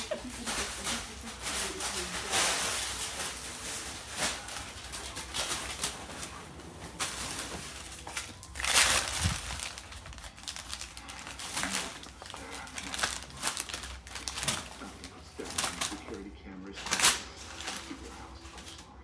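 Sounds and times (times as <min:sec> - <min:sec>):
food package crinkling and tearing: 0:00.0 - 0:19.0.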